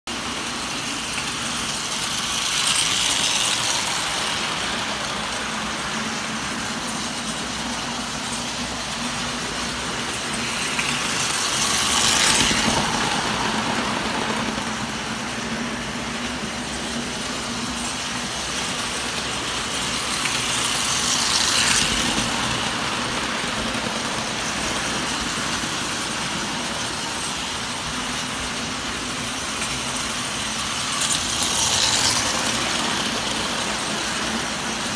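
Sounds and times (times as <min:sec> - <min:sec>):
toy train rattling on metal track: 0:00.1 - 0:34.9.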